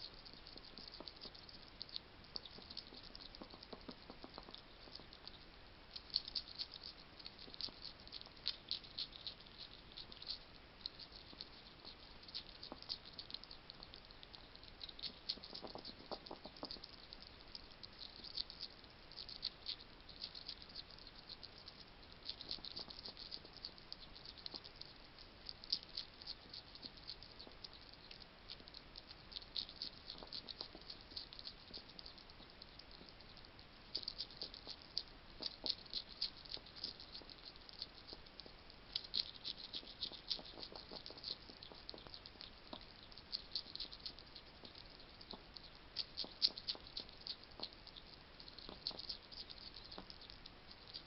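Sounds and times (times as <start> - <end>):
hedgehog crunching food: 0.0 - 51.0.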